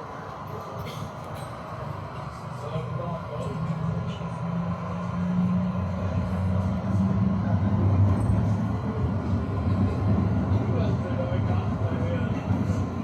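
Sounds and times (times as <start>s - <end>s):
tram running on rails: 0.0s - 13.0s.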